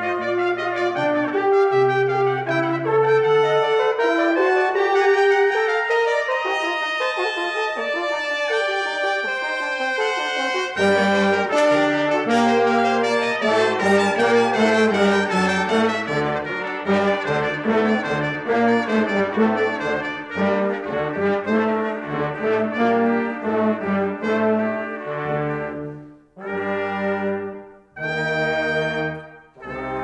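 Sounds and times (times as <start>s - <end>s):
brass ensemble playing: 0.0s - 30.0s.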